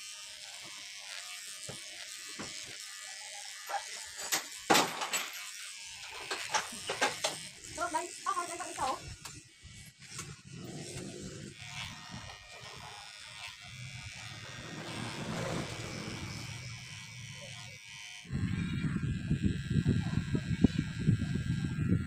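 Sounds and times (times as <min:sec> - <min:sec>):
electric hair trimmer buzzing: 0:00.0 - 0:22.0
hair clipper rough low buzz: 0:00.0 - 0:22.0.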